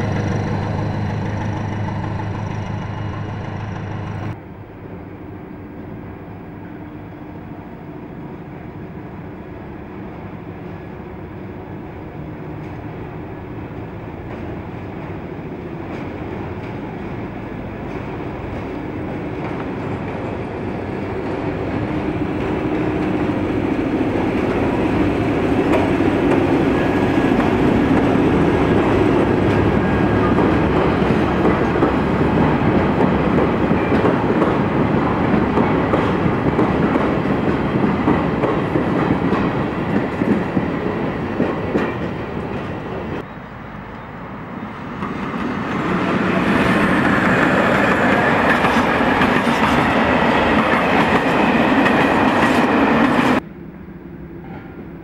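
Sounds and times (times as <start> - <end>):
locomotive engine: 0.0 - 55.0.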